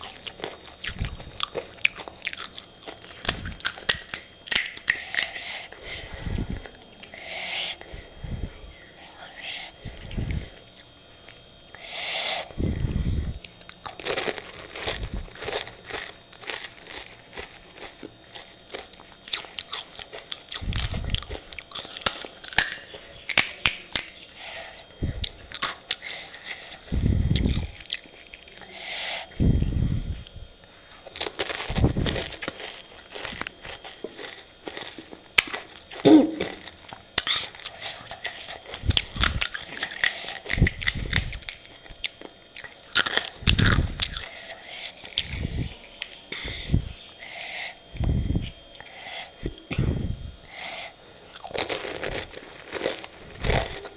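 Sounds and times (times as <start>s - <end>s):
person crunching and chewing: 0.0s - 53.9s.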